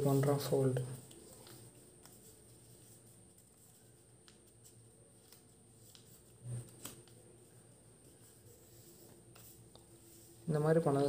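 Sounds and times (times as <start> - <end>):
paper rustling and creasing: 0.0 - 11.0.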